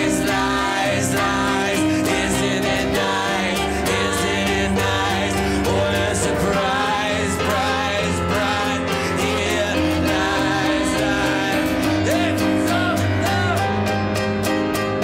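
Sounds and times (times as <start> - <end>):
man singing: 0.0 - 14.2
acoustic guitar: 0.0 - 15.0
grand piano: 0.0 - 15.0.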